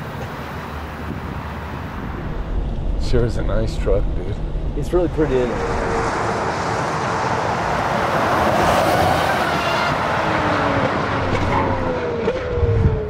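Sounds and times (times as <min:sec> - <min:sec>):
vehicle driving past: 0:01.4 - 0:13.0.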